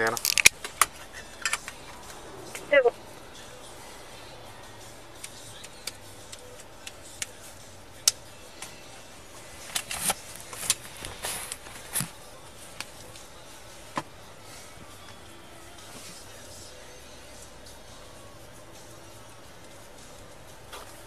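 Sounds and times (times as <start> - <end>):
car cabin hum: 0.0 - 17.0.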